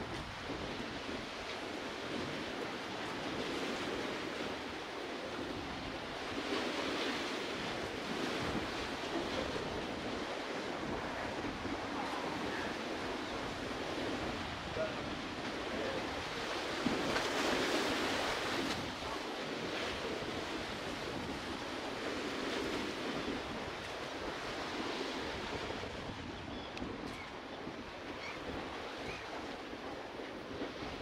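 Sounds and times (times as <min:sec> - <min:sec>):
sea waves washing against breakwater: 0:00.0 - 0:31.0.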